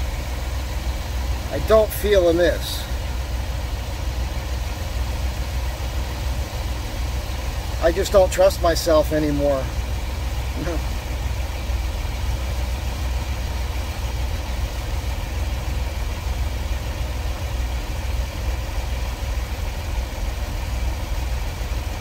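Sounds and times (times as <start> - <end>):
van engine idling: 0.0 - 22.0.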